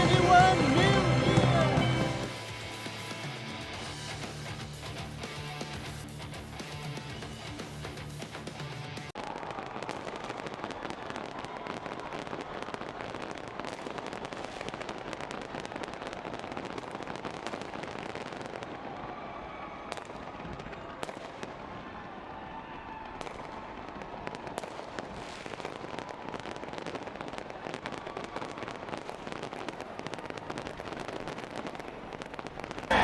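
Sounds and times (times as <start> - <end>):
fireworks bangs: 0.0 - 3.2, 9.2 - 33.0
fireworks crackling: 0.0 - 33.0.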